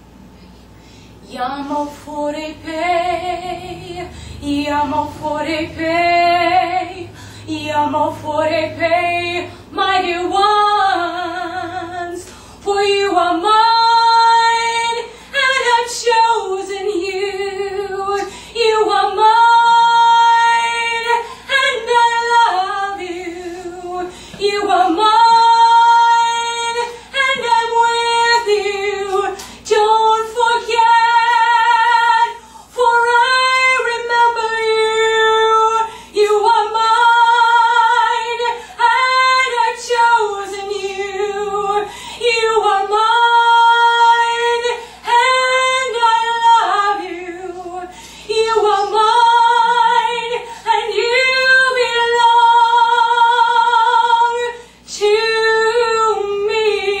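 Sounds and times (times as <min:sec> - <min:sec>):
woman singing unaccompanied: 0:01.2 - 0:57.0.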